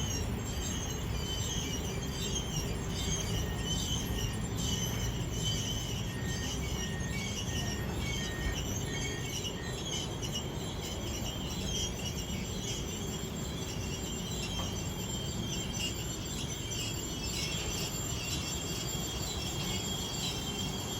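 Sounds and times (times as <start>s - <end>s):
short squeak: 0.0s - 20.9s
wheel squeal: 0.0s - 20.9s.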